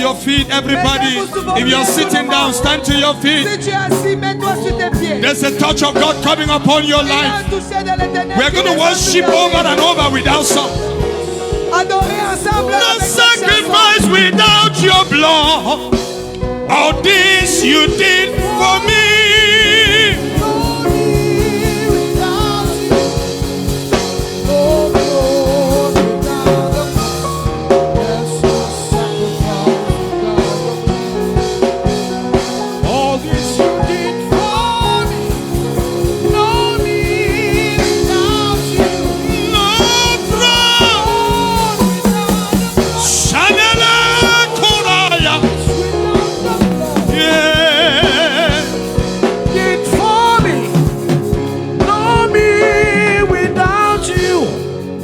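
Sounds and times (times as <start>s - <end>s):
band playing worship song: 0.0s - 55.0s
singers holding long notes: 0.0s - 55.0s.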